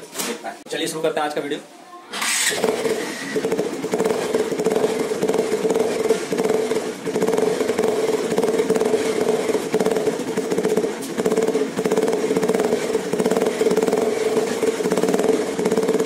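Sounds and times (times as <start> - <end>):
motorcycle engine humming: 2.2 - 16.0.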